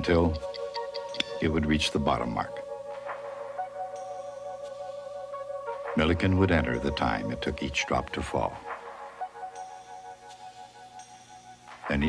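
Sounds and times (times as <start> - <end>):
soft music with held notes: 0.0 - 12.0.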